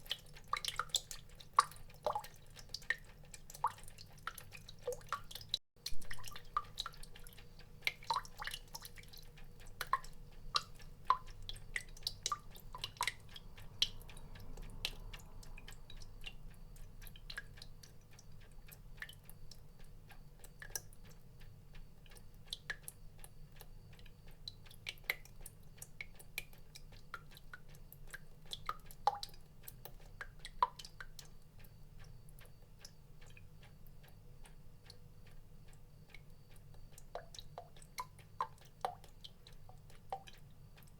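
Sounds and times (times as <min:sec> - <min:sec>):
water drops plinking into water: 0:00.0 - 0:21.2, 0:23.6 - 0:34.2, 0:35.7 - 0:40.9.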